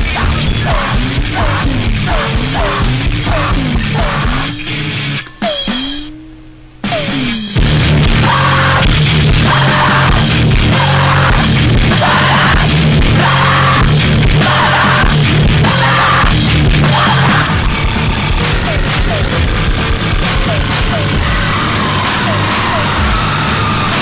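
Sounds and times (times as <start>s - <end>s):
screamed vocals: 0.0s - 6.1s, 6.8s - 24.0s
distorted guitars bass and drums: 0.0s - 24.0s.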